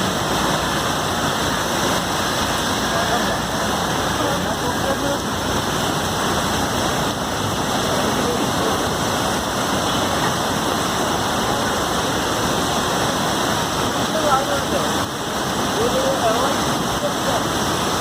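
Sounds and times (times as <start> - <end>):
loud water noise: 0.0 - 18.0.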